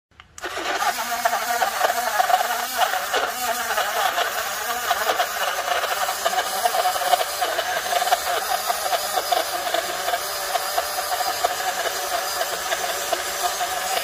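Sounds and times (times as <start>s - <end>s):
small blender motor buzzing: 0.4s - 14.0s.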